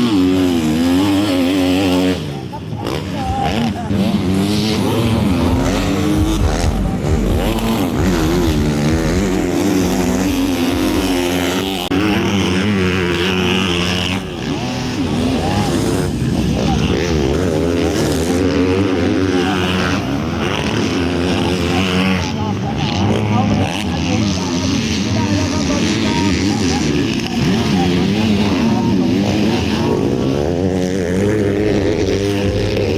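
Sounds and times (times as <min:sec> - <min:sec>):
motocross bike engines revving: 0:00.0 - 0:32.9.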